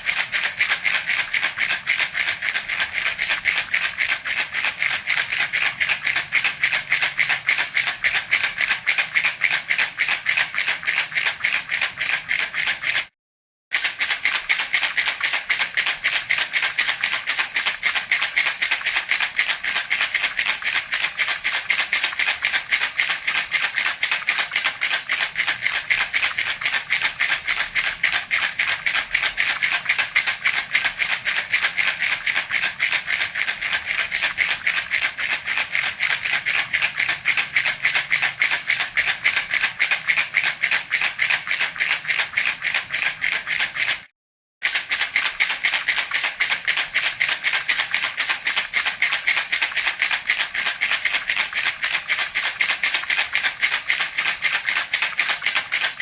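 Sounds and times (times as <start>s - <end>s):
baby rattle shaken: 0.0s - 13.1s, 13.7s - 56.0s.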